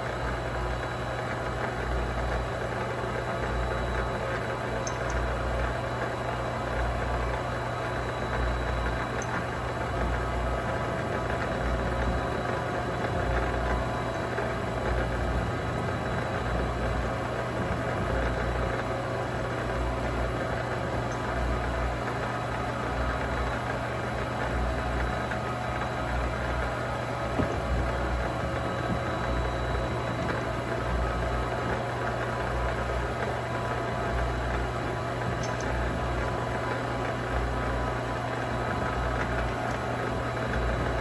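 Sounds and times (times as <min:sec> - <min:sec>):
lathe motor humming: 0:00.0 - 0:41.0.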